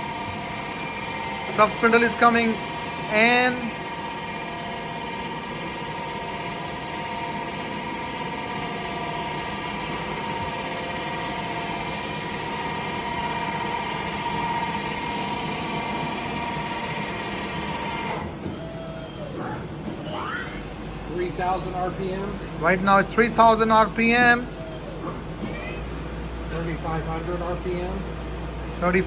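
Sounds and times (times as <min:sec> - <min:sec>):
lathe spindle whine: 0:00.0 - 0:29.0
machine hum: 0:00.0 - 0:29.0.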